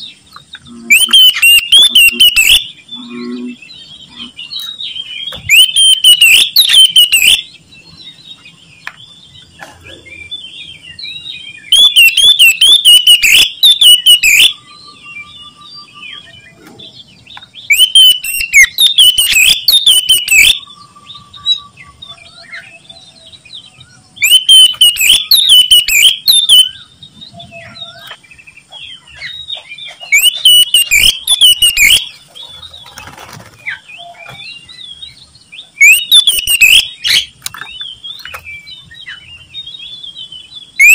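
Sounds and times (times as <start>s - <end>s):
bird singing whistled notes: 0.0s - 40.9s
faint bird calls and trills: 0.0s - 40.9s.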